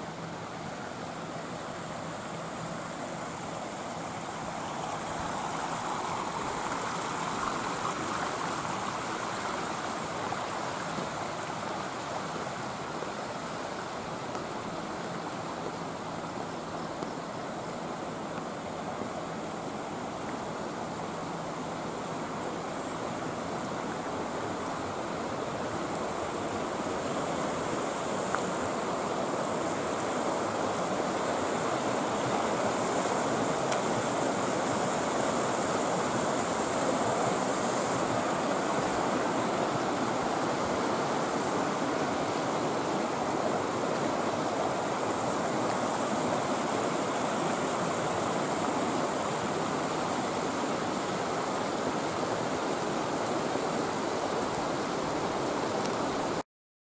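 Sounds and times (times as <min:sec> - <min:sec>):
stream rushing over rocks: 0:00.0 - 0:56.4.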